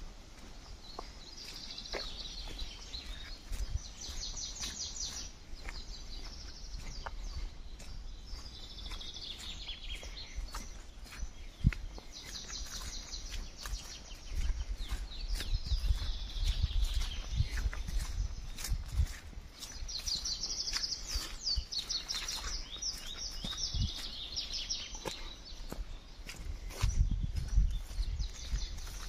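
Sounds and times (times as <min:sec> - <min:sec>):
footsteps on dirt path: 0:00.0 - 0:29.0
songbirds singing: 0:00.0 - 0:29.0.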